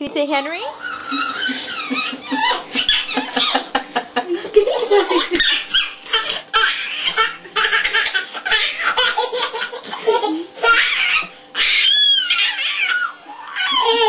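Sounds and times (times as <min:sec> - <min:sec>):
baby laughing: 0:00.8 - 0:14.0.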